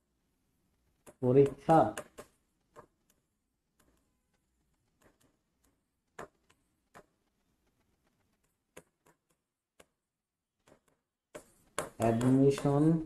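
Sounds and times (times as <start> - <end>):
marker tapping on writing board: 1.0 - 10.0, 10.6 - 13.0.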